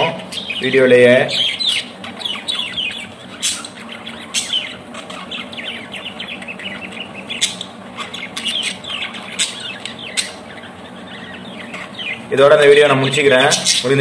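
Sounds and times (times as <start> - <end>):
budgerigars chattering: 0.0 - 14.0
sharp bird calls: 0.0 - 14.0.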